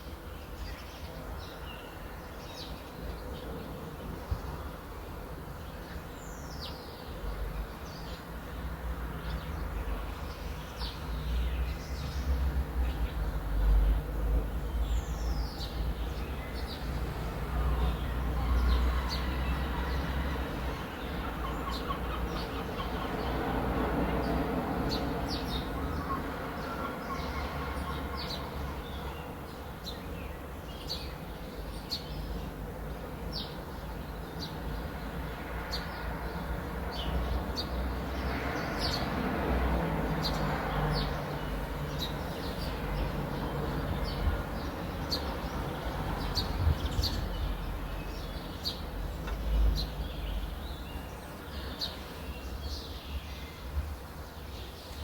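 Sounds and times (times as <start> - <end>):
small birds chirping: 5.7 - 19.9, 24.2 - 39.2, 40.0 - 55.0.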